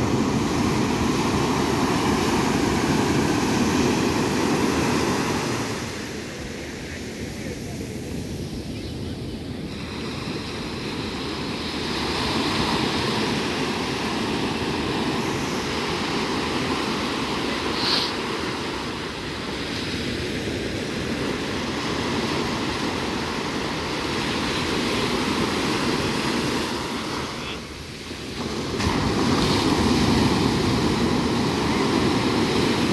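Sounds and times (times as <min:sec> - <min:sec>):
waves washing up a beach: 0:00.0 - 0:32.9.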